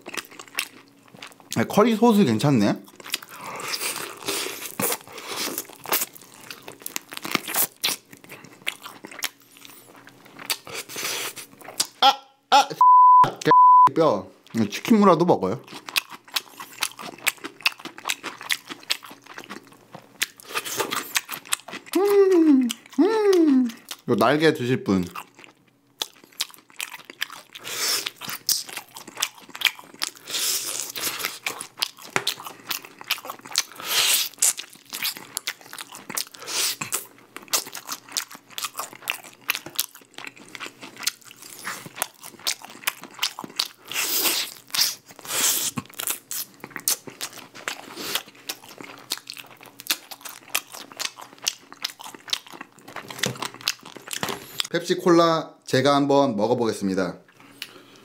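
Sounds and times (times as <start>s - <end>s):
crunching and chewing fried chicken: 0.0s - 12.0s, 14.4s - 54.8s.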